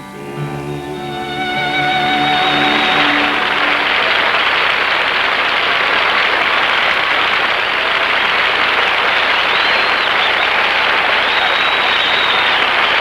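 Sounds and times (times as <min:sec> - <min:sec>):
audience applauding: 0:00.0 - 0:13.0
whistle: 0:00.0 - 0:13.0.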